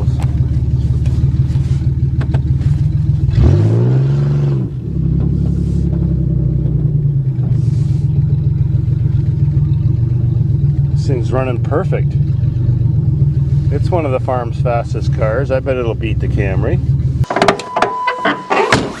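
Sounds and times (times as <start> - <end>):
car engine running: 0.0 - 17.3.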